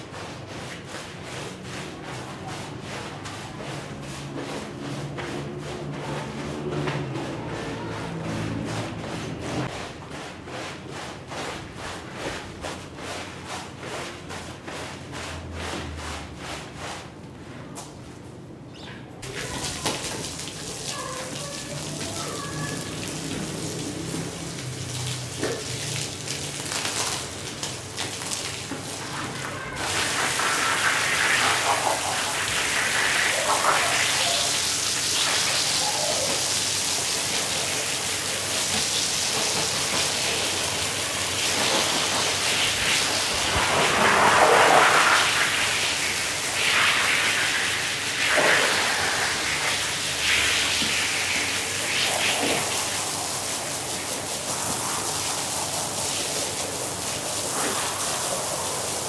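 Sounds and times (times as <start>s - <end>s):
water spraying onto a wet rug: 0.0s - 17.2s, 19.2s - 59.0s.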